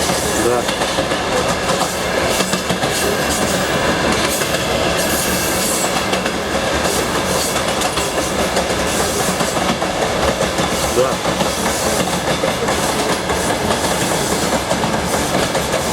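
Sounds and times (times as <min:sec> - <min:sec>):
clickety-clack of train wheels: 0:00.0 - 0:15.9
train rumble and rush: 0:00.0 - 0:15.9.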